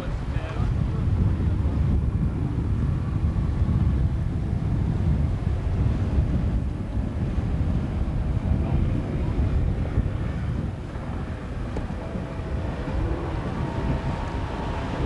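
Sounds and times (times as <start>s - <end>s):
wind rumbling on microphone: 0.0s - 15.0s
boat engine running: 0.1s - 15.0s.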